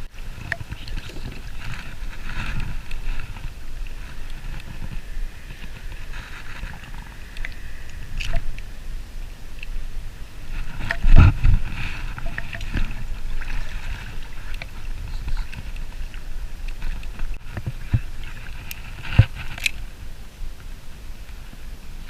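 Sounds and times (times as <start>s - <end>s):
light water noise: 0.0s - 22.0s.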